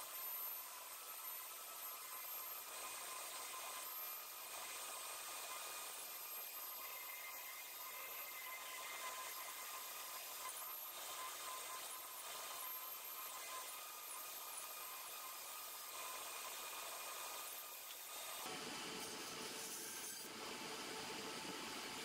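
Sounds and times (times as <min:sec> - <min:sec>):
cordless drill boring into log: 0:00.0 - 0:22.0.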